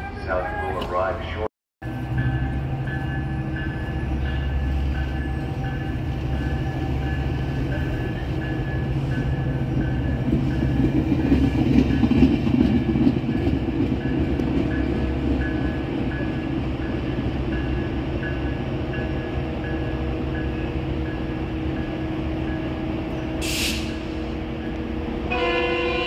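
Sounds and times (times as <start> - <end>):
train cars rumbling: 0.0 - 26.0.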